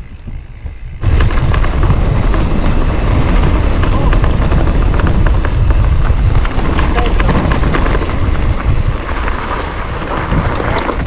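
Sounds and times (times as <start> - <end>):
bike rattling over rough ground: 0.0 - 11.0
wind buffeting microphone: 0.0 - 11.0.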